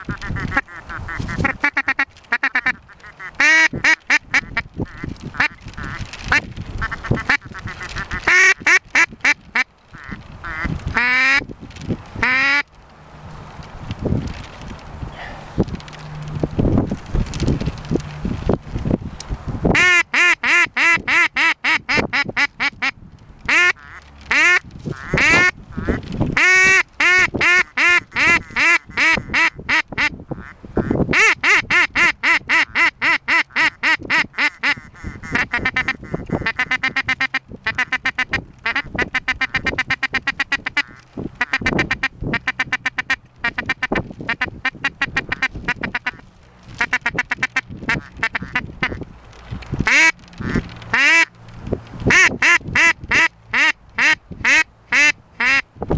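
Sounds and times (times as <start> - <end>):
ducks quacking: 0.0 - 11.5, 12.2 - 12.7, 19.8 - 49.0, 49.8 - 51.3, 52.1 - 55.6.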